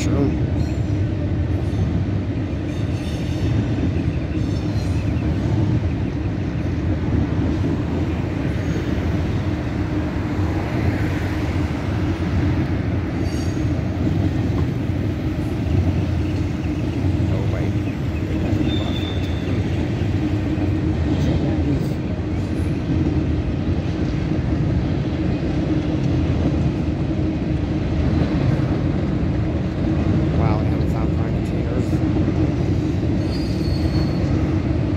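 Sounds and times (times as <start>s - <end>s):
freight train wheels on rails: 0.0s - 34.9s.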